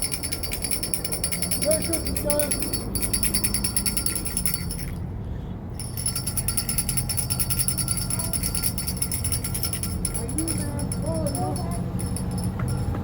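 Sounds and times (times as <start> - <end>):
handbells ringing: 0.0 - 5.1, 5.7 - 13.0.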